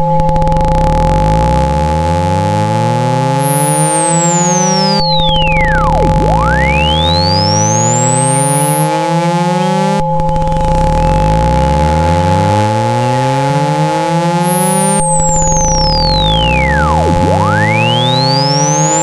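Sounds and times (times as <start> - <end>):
steady low and mid tones: 0.0 - 19.0
upward gliding low tones: 0.0 - 19.0.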